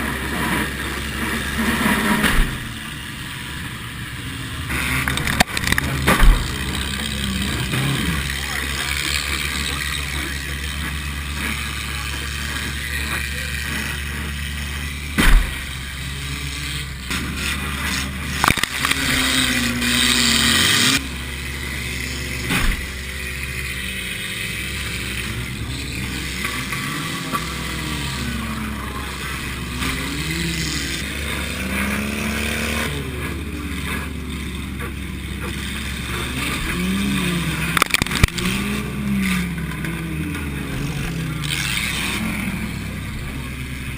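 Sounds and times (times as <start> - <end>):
car engine revving: 0.0 - 43.9
cars crashing: 0.0 - 43.9.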